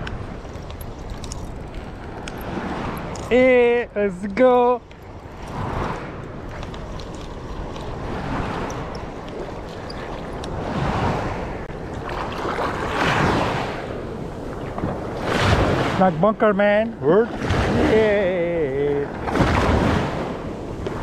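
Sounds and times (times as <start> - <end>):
water rushing along boat hull: 0.0 - 21.0
wind buffeting microphone: 0.0 - 21.0.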